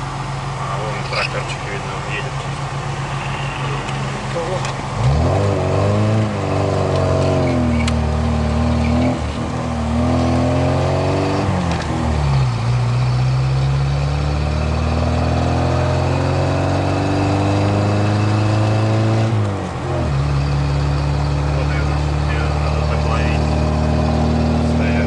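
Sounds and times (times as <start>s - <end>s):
car engine revving through gears: 0.6s - 25.0s.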